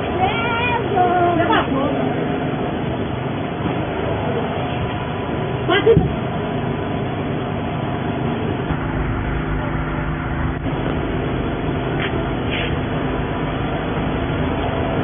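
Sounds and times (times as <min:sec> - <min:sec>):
steady engine hum: 0:00.0 - 0:15.0
street background noise: 0:00.0 - 0:15.0.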